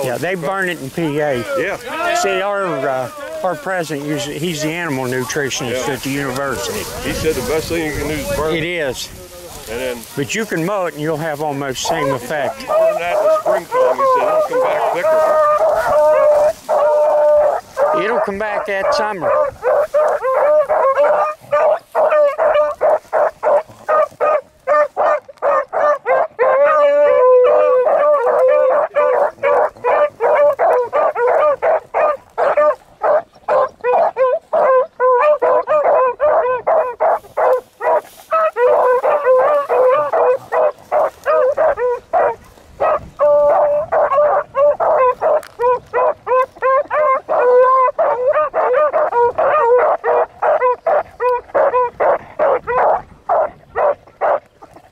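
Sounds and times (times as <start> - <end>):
beagles barking and bawling: 0.0 - 54.9.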